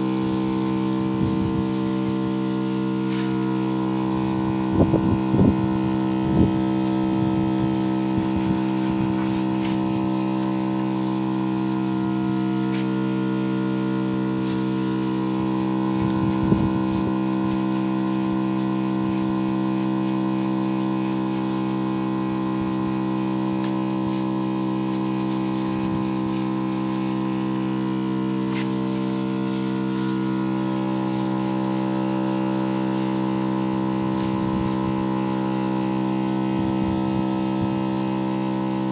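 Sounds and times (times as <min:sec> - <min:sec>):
water pump humming: 0:00.0 - 0:38.9.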